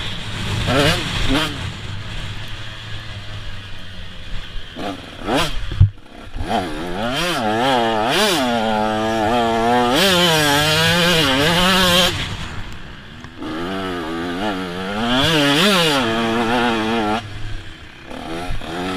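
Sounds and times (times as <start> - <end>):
motocross bike engine revving: 0.0 - 18.9.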